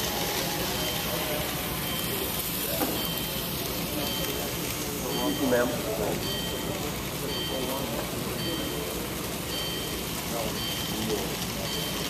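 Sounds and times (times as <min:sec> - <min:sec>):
busy hall background noise: 0:00.0 - 0:12.0.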